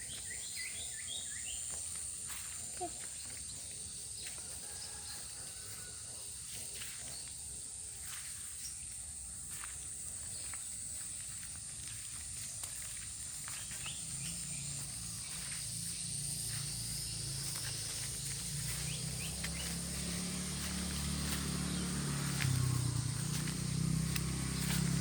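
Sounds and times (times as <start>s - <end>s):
insects droning: 0.0s - 25.0s
low engine hum: 0.0s - 25.0s.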